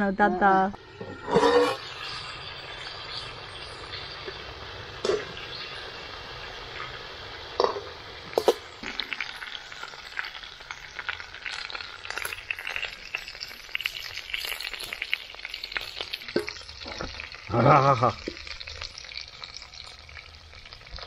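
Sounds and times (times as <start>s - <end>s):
chicken frying in oil: 0.8s - 21.0s.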